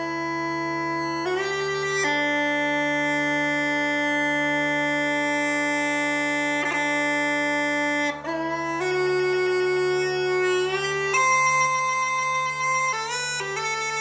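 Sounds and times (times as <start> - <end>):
bagpipes playing slow air: 0.0 - 14.0.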